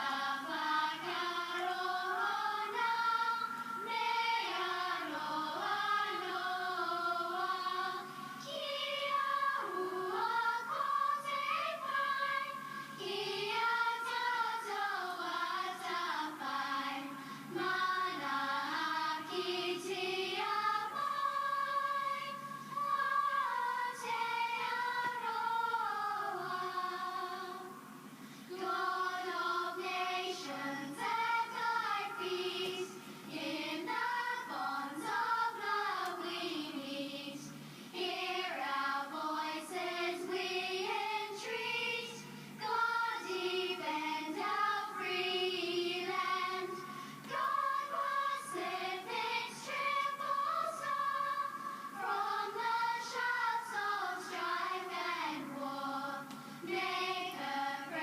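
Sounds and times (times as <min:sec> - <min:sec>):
girls' choir singing an anthem: 0:00.0 - 0:27.9, 0:28.5 - 0:58.0.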